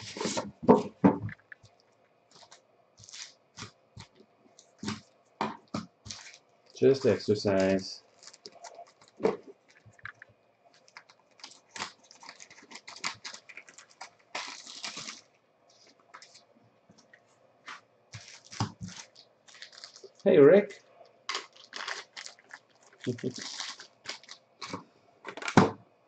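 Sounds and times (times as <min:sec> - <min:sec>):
plastic wrapper crinkling: 0:00.0 - 0:25.6.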